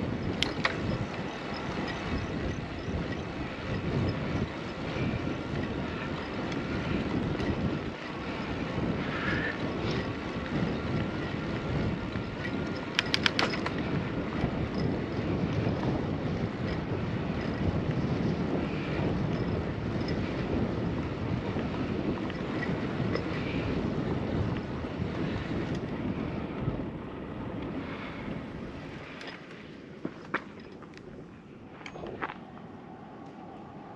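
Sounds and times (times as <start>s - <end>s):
road noise: 0.0s - 33.9s
wind buffeting microphone: 0.0s - 33.9s.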